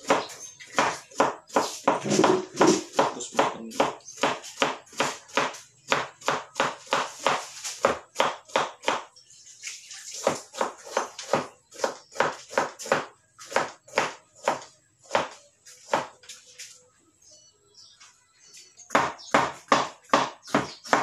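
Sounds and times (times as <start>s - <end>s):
knife chopping on plastic board: 0.0s - 9.1s, 10.2s - 16.1s, 18.9s - 21.0s.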